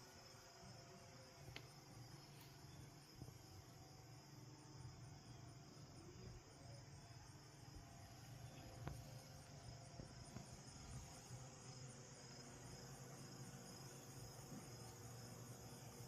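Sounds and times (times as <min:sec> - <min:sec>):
faint insect chirping: 0:00.0 - 0:16.0.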